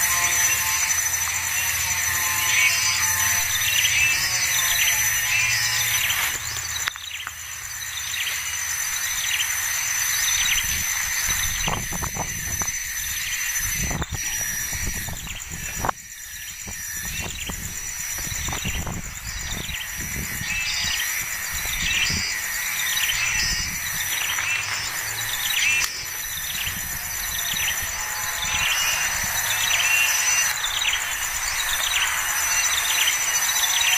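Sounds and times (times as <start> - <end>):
insect buzz: 0.0 - 33.9.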